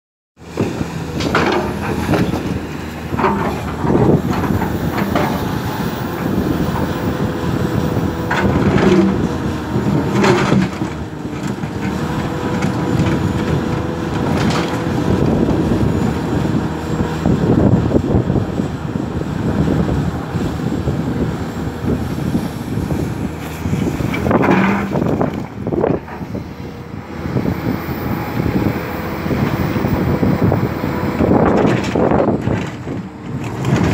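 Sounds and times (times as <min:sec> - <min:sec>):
excavator engine and hydraulics: 0:00.4 - 0:33.9.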